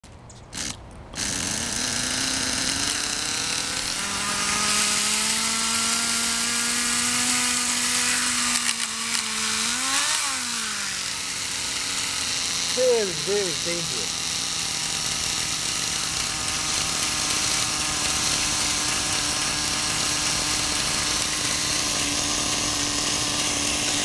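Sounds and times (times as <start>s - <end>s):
small nitro engine running: 0.5s - 24.0s.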